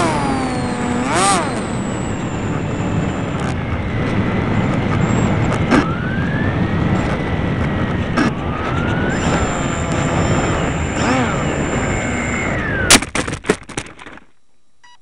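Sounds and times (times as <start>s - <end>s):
model plane motor whine: 0.0s - 12.9s
wind rumble on microphone: 0.1s - 12.9s.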